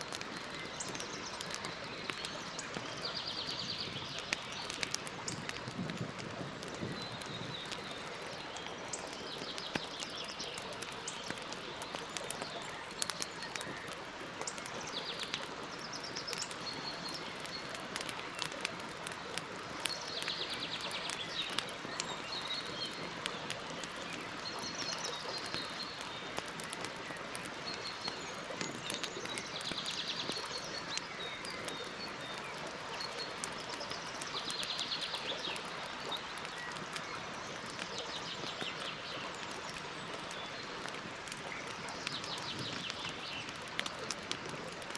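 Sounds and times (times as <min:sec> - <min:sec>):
campfire crackling and popping: 0:00.0 - 0:44.9
birds singing: 0:00.4 - 0:05.6, 0:06.4 - 0:44.9.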